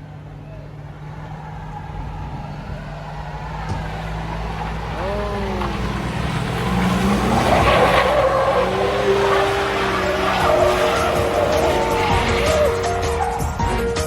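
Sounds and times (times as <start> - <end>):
pickup truck engine revving: 0.0 - 14.0.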